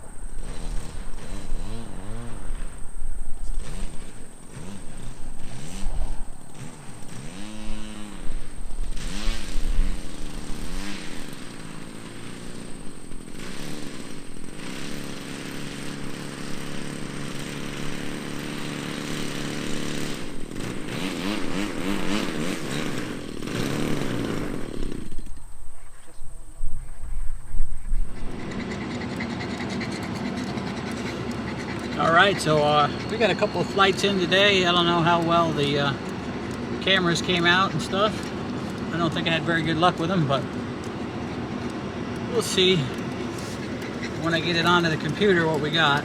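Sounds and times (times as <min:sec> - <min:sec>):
model airplane gas engine: 0:00.0 - 0:46.0.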